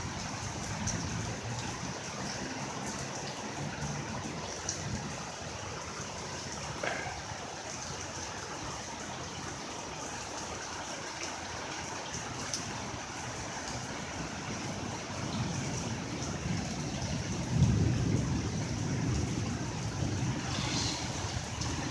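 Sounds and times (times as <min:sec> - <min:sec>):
heavy rain falling: 0:00.0 - 0:21.9
water trickling and dripping: 0:00.0 - 0:21.9.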